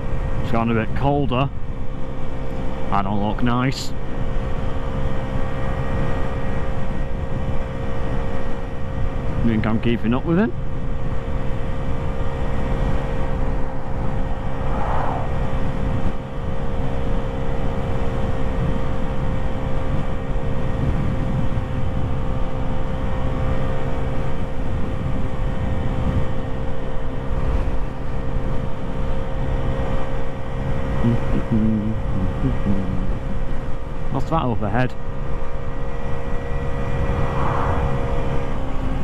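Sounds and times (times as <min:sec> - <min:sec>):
wind rumbling on microphone: 0:00.0 - 0:34.2, 0:35.0 - 0:39.0
scooter engine at full throttle: 0:00.0 - 0:39.0.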